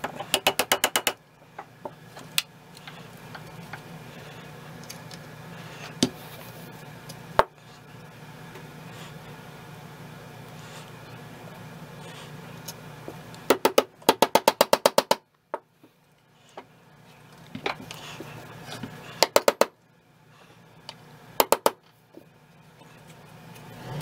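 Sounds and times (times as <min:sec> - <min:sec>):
steady low hum: 0:00.0 - 0:14.6, 0:15.2 - 0:24.0.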